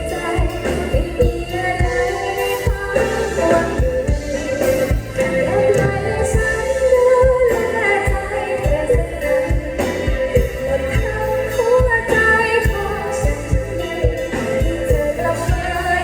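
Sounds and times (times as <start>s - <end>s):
live band music: 0.0s - 16.0s
woman singing: 0.0s - 16.0s.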